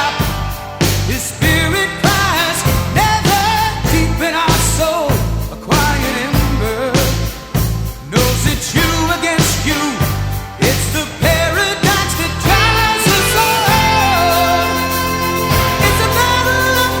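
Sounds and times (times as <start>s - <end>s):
rock song with singing: 0.0s - 17.0s.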